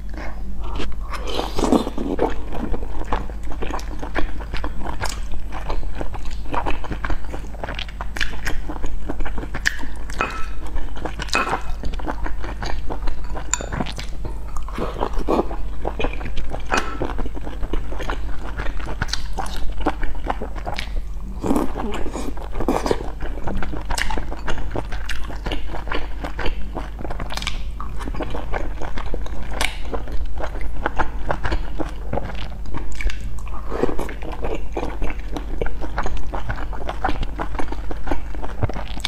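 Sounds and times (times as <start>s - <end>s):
close-up chewing and mouth smacks: 0.0s - 39.0s
steady low hum: 0.0s - 39.0s.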